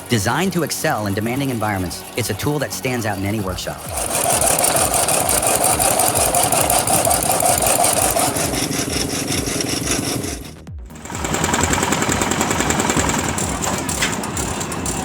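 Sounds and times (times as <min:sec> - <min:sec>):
power saw cutting wood: 0:00.0 - 0:15.0
steady high whine: 0:00.0 - 0:15.0.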